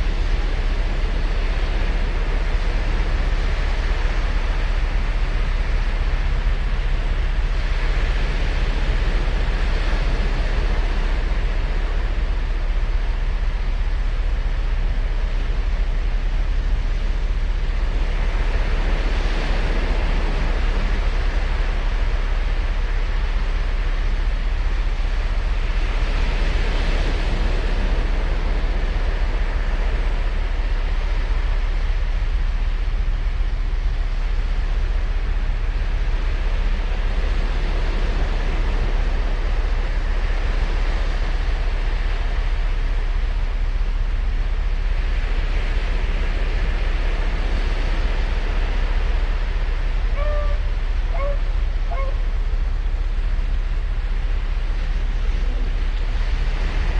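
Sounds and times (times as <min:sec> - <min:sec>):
low surf rumble: 0:00.0 - 0:56.9
ocean waves breaking on beach: 0:00.0 - 0:56.9.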